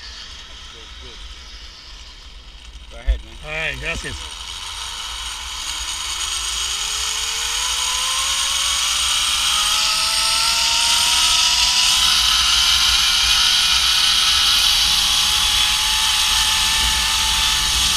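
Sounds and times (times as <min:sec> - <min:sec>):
zipline pulleys whining on cable: 0:00.0 - 0:17.9.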